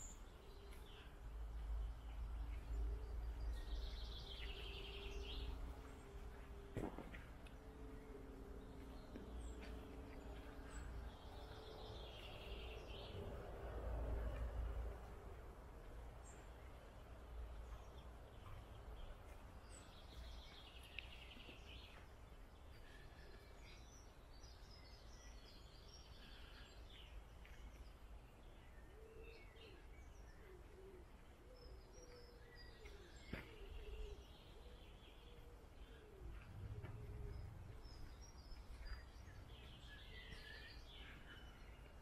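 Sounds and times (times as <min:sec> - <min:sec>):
small birds chirping: 0:00.0 - 0:13.4, 0:15.8 - 0:42.0
low outdoor rumble: 0:00.0 - 0:28.6, 0:32.5 - 0:42.0.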